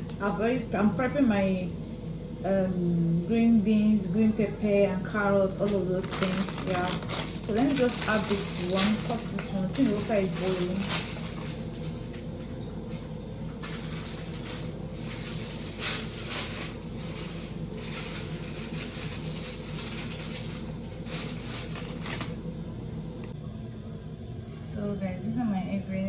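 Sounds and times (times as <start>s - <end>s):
gas burner hiss: 0.0s - 23.5s.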